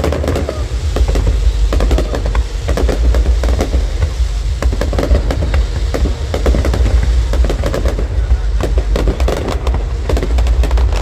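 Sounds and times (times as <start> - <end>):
fireworks bangs and crackles: 0.0 - 11.0
heavy low rumble: 0.0 - 11.0.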